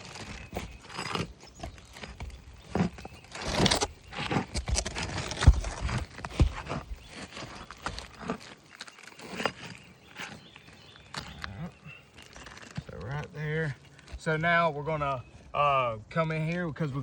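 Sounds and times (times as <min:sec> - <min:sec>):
pry tool scraping shingle: 0:00.0 - 0:14.3.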